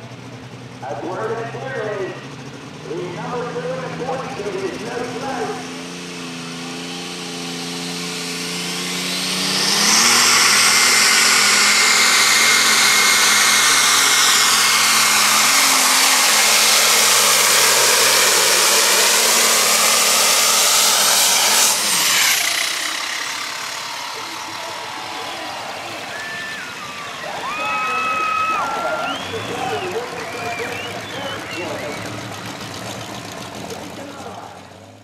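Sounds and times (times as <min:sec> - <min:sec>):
high turbo whine: 0:00.0 - 0:35.0
tractor diesel engine revving: 0:00.0 - 0:35.0.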